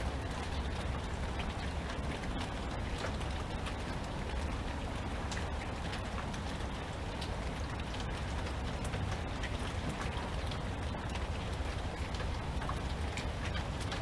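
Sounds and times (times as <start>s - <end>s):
rain pattering on a surface: 0.0s - 14.0s.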